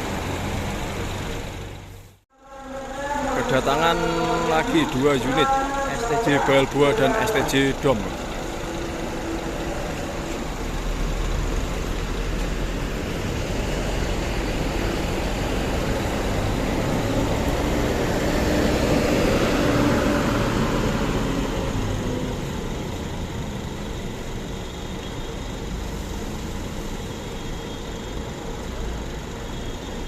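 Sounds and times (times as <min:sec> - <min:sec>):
bus engine passing by: 0:00.0 - 0:30.0.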